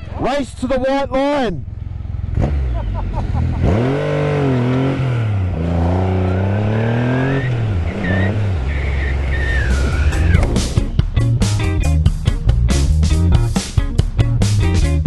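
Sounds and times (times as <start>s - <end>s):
motorcycle engine accelerating: 1.6s - 15.0s.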